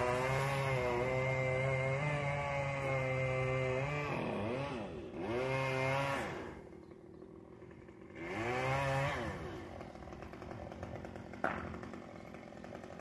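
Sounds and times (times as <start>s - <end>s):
chainsaw running at high revs: 0.0s - 13.0s.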